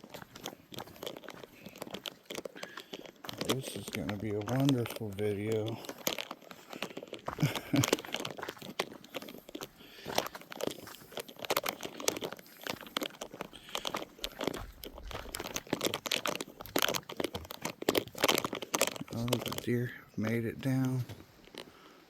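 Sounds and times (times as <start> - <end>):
crunching and crackling rustles: 0.0 - 22.0.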